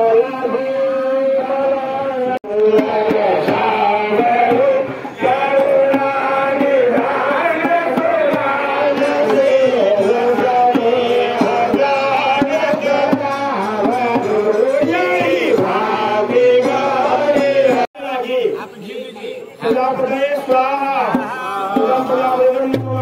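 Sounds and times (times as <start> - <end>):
priests chanting: 0.0 - 18.4, 19.1 - 23.0.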